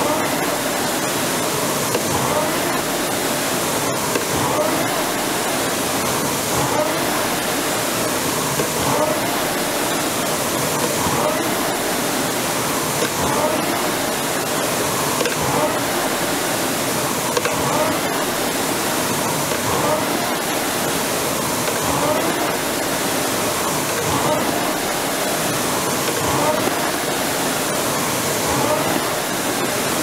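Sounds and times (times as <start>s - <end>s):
rowing machine flywheel rushing: 0.0s - 30.0s.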